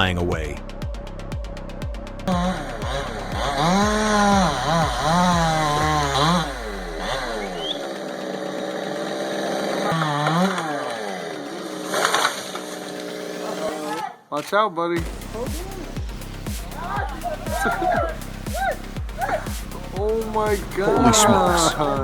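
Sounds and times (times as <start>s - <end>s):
low music beat: 0.0s - 13.6s, 15.0s - 22.0s
chainsaw revving: 2.3s - 14.0s, 15.0s - 22.0s.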